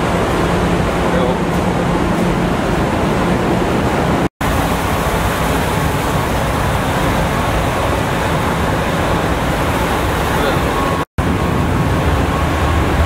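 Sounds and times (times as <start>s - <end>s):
ferry machinery hum and rumble: 0.0s - 13.0s.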